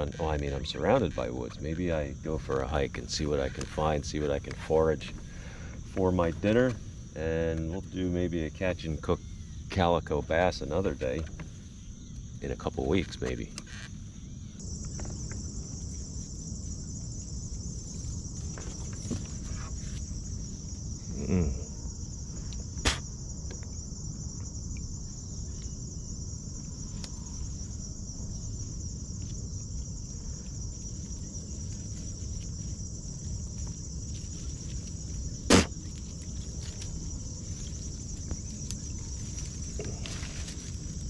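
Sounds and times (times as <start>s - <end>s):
insects chorus: 0.0s - 41.0s.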